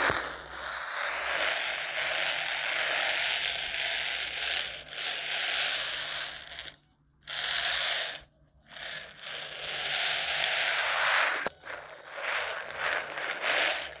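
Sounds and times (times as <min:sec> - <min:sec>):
electric motor and gears whirring: 0:00.0 - 0:14.0.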